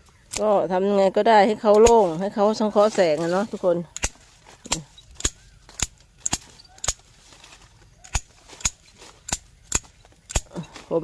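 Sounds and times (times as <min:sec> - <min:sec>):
pruning shears snipping branches: 0:00.1 - 0:11.0.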